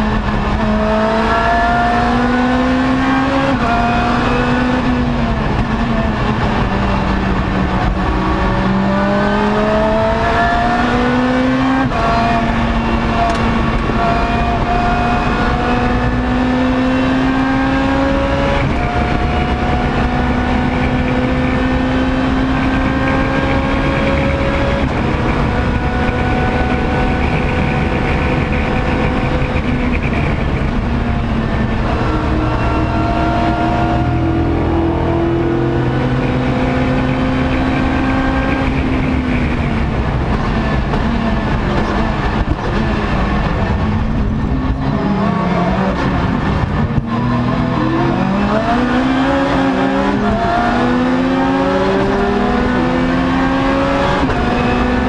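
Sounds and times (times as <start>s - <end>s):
race car engine accelerating: 0.0s - 55.0s
road and wind noise: 0.0s - 55.0s.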